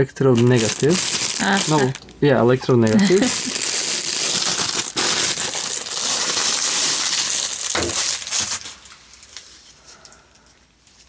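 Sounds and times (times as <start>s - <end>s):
packaging crumpling and rustling: 0.3s - 10.0s.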